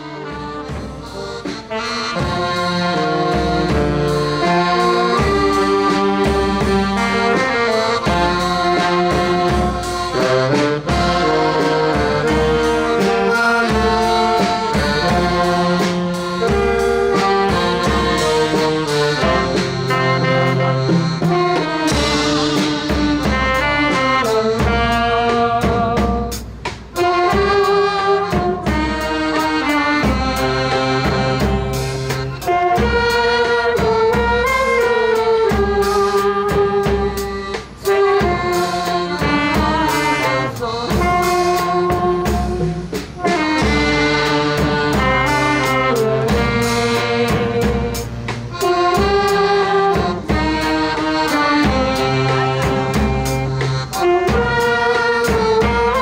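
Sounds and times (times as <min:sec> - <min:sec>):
bass and drum beat: 0:00.0 - 0:56.0
saxophones and brass playing: 0:00.0 - 0:56.0.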